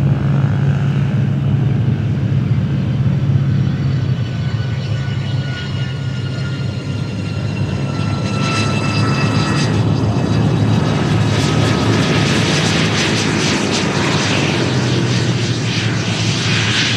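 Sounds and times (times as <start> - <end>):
jet engine rumble and whine: 0.0 - 16.9.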